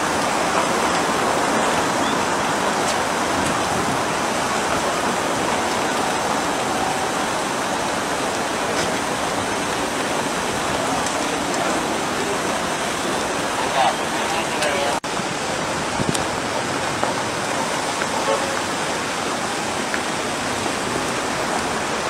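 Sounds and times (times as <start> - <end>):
rushing outdoor background noise: 0.0 - 22.0.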